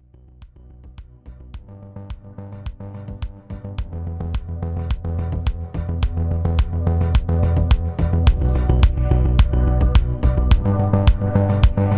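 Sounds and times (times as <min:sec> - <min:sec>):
electronic music with steady beat: 0:00.0 - 0:11.9.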